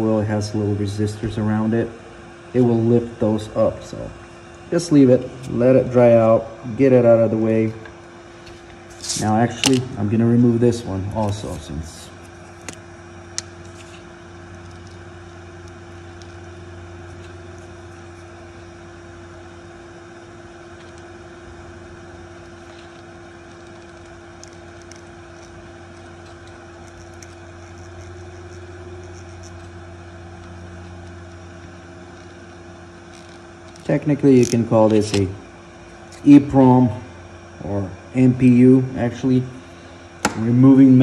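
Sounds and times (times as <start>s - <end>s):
hot air blower hum and whine: 0.0s - 41.0s.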